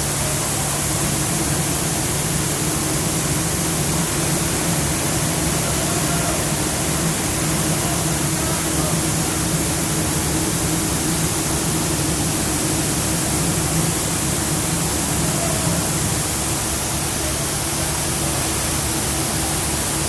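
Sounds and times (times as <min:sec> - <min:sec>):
rice mill machinery humming: 0:00.0 - 0:20.0.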